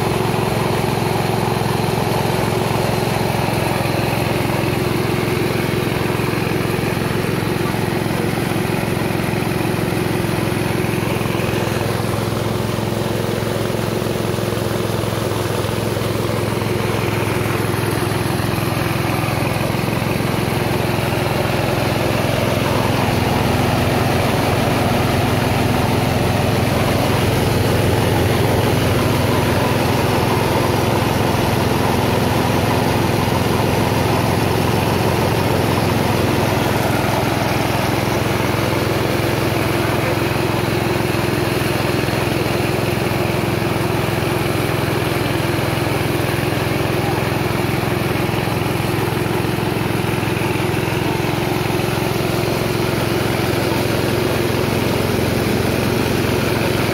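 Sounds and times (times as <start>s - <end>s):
rice milling machine engine: 0.0s - 56.9s.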